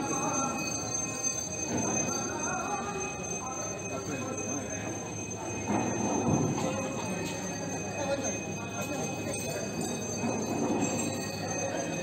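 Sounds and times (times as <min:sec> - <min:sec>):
continuous background din: 0:00.0 - 0:12.0
people talking: 0:00.0 - 0:12.0.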